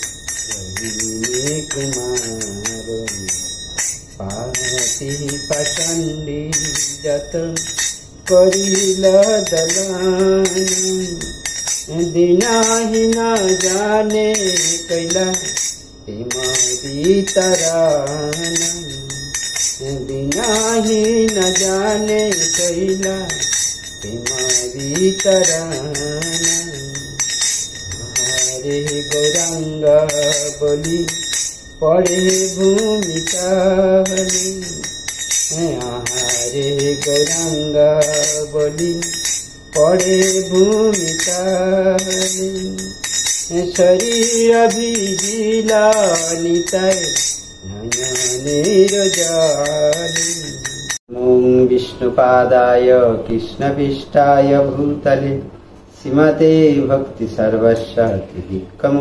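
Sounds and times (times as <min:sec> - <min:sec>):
hand cymbals jingling: 0:00.0 - 0:51.1
man singing: 0:00.0 - 0:59.0.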